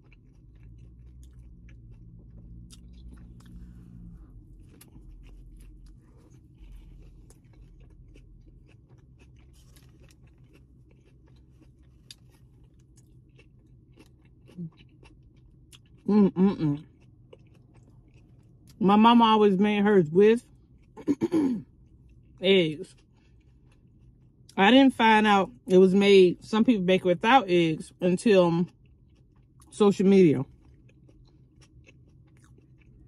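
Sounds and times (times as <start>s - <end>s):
chewing with wet mouth smacks: 0.0s - 18.8s, 20.4s - 24.6s, 28.5s - 29.8s, 30.4s - 33.0s.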